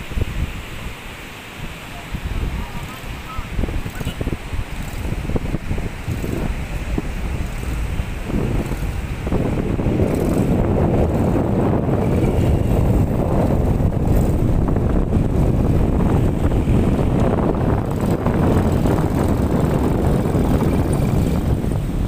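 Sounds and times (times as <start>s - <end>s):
wind noise on microphone: 0.0s - 22.0s
atv engine running: 2.8s - 22.0s.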